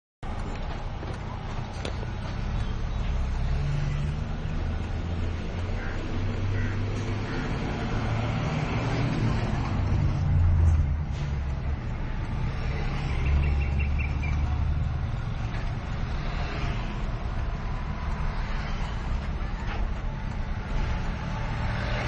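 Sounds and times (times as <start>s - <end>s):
vehicles passing: 0.2s - 22.0s.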